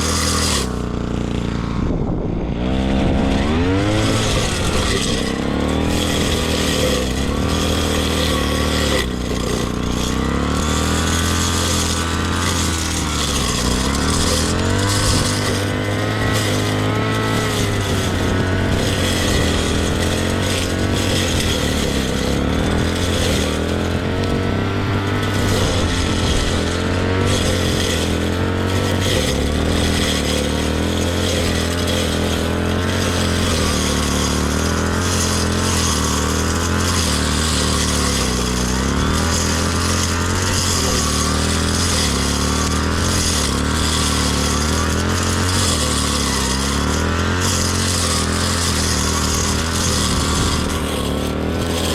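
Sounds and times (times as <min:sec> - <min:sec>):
grass cutter engine running: 0:00.0 - 0:51.9.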